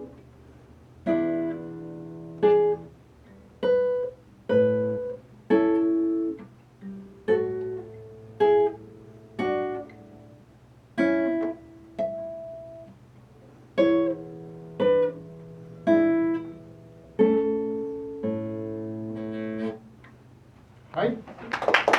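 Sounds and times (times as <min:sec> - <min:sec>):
acoustic guitar playing: 0:00.0 - 0:20.8.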